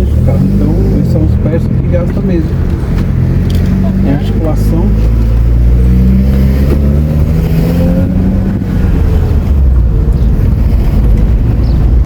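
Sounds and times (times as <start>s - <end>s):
car engine hum: 0.0s - 12.0s
road noise inside car: 0.0s - 12.0s.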